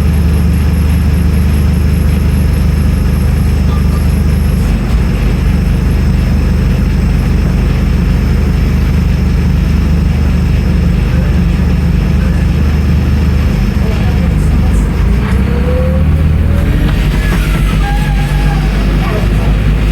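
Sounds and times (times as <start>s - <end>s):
bus diesel engine droning: 0.0s - 19.9s
road and drivetrain noise: 0.0s - 19.9s.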